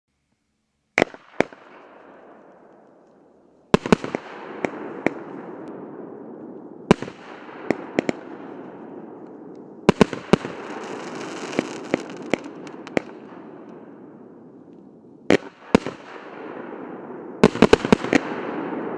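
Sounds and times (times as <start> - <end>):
crackling hiss of bursting stars: 0.2 - 16.3
firework bangs: 1.0 - 2.8, 3.7 - 14.6, 15.3 - 18.9.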